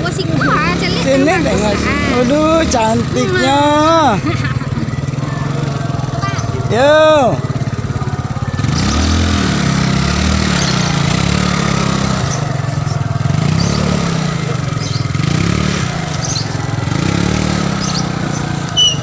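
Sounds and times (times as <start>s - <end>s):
small motorcycle engine revving: 0.0s - 19.0s.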